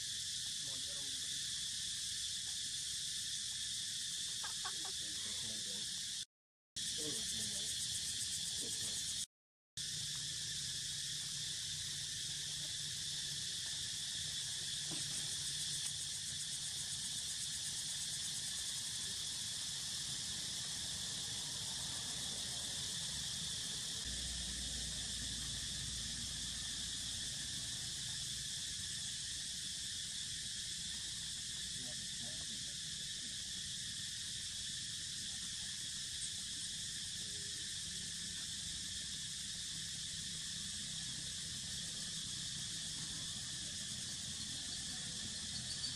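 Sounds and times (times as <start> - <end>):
high-pitched insects droning: 0.0 - 45.9.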